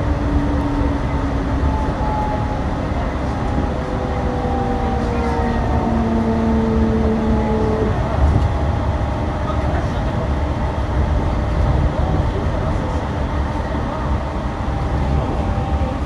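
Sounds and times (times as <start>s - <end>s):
rubber-tyred train rumbling: 0.0s - 16.0s.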